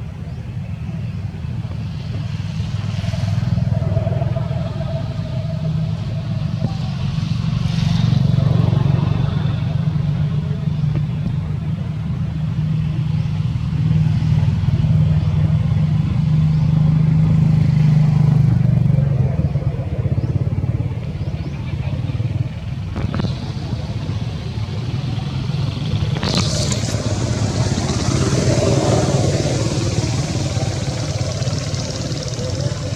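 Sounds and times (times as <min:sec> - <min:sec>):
vehicle engine rumble: 0:00.0 - 0:32.9.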